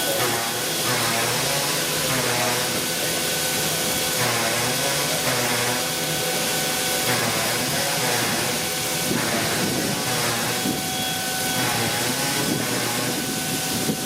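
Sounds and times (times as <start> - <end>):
steady whine: 0.0 - 14.0
steam locomotive hissing: 0.0 - 14.0.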